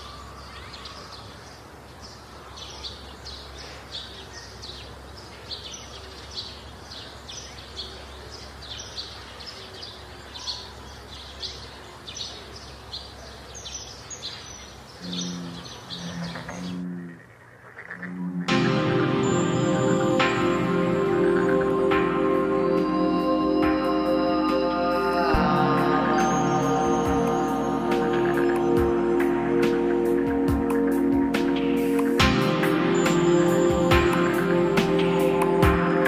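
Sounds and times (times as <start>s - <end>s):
small birds chirping: 0.0s - 18.4s, 19.0s - 36.0s
low background noise: 0.0s - 36.0s.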